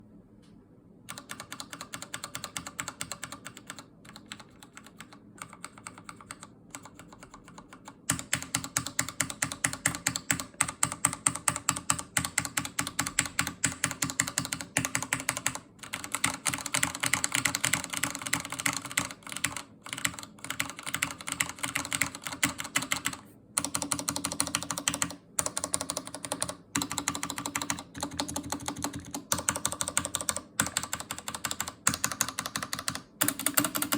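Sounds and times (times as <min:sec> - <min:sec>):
mechanical keyboard typing: 0:01.1 - 0:33.9.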